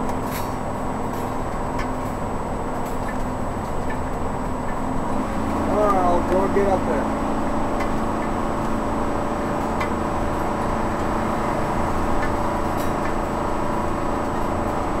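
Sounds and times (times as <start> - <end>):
vehicle engine and tyre noise: 0.0 - 15.0.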